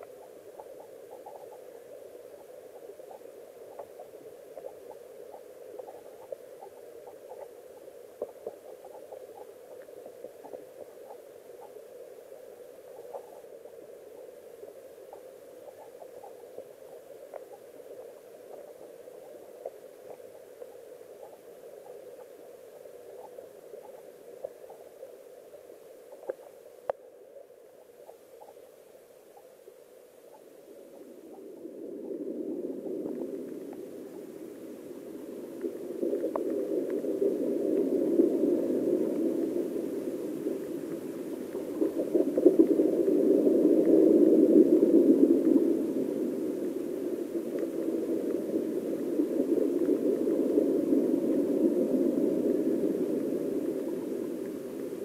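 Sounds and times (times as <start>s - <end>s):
muffled underwater rush of water: 0.0s - 55.0s
small underwater clicks: 0.0s - 55.0s.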